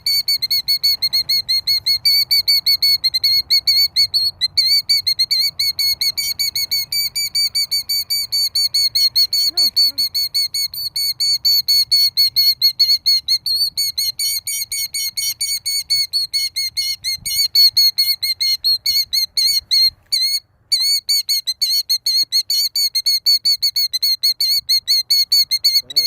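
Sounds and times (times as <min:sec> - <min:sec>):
killdeer alarm calls: 0:00.0 - 0:26.0.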